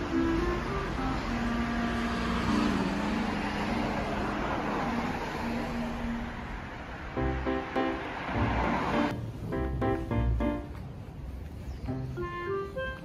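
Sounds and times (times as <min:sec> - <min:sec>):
car passing by: 0:00.0 - 0:10.5.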